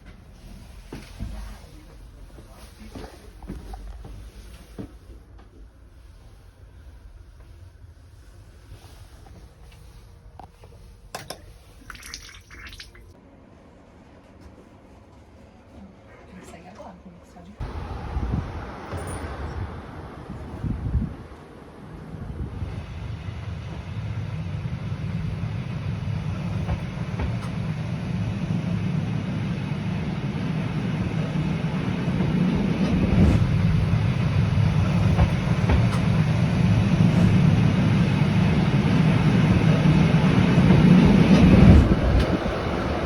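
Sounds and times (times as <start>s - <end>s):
train rumbling on rails: 0.0s - 11.8s, 17.6s - 43.0s.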